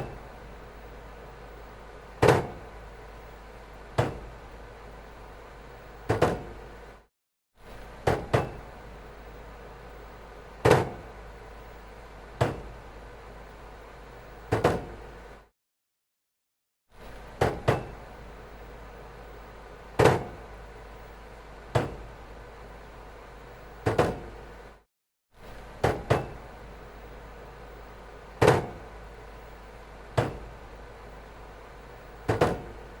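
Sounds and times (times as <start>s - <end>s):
steady low hum: 0.0s - 7.1s, 7.7s - 15.5s, 17.0s - 24.8s, 25.4s - 33.0s.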